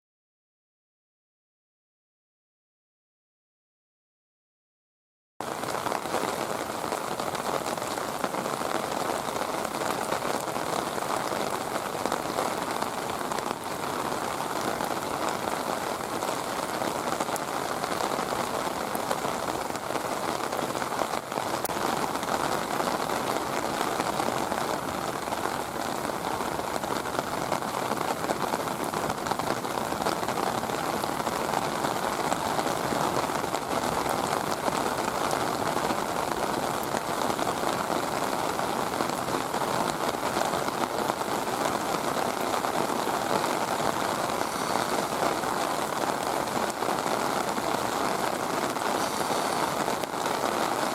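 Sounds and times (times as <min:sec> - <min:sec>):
heavy rain falling: 0:05.4 - 0:50.9.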